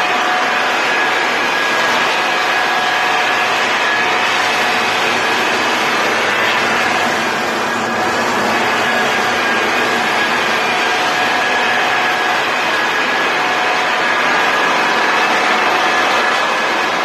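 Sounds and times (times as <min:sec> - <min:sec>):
floor sander whirring: 0:00.0 - 0:17.0.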